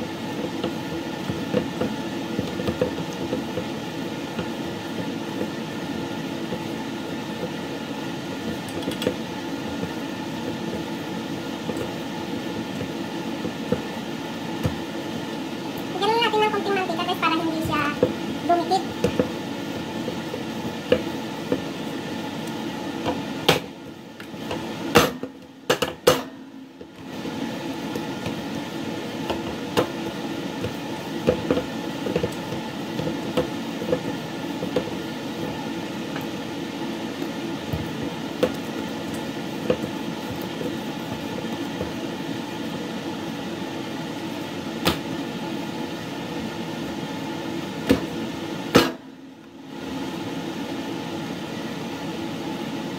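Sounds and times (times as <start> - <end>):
mechanical hum: 0.0 - 52.9.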